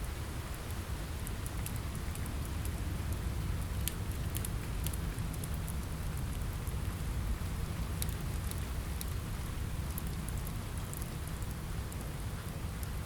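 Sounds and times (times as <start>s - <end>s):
rain falling on a window: 0.0s - 13.0s
wood fire crackling: 0.0s - 13.0s.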